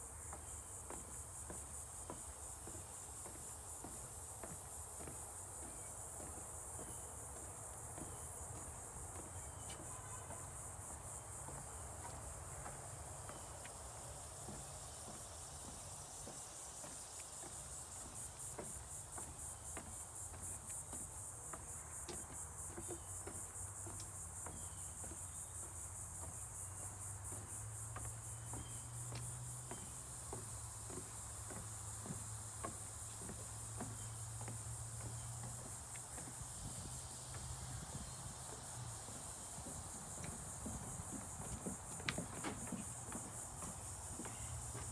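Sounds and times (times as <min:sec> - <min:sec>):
footsteps on wooden boardwalk: 0:00.0 - 0:44.9
high-pitched insect chorus: 0:00.0 - 0:44.9.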